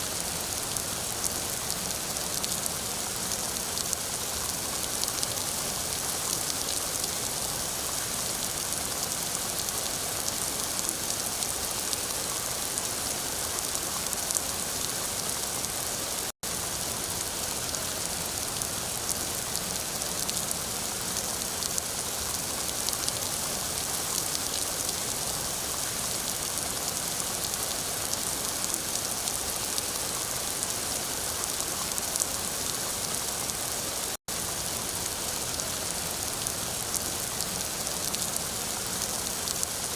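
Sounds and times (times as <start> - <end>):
steady rain hiss: 0.0 - 39.9
raindrops pattering: 0.1 - 39.9.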